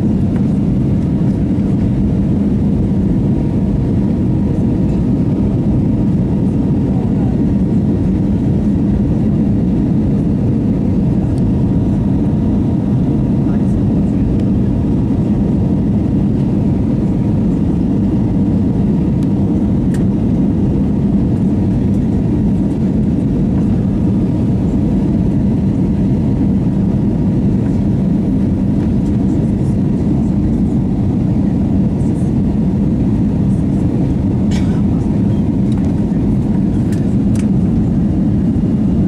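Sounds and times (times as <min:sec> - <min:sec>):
aircraft cabin drone: 0:00.0 - 0:39.0
constant hum: 0:00.0 - 0:39.0.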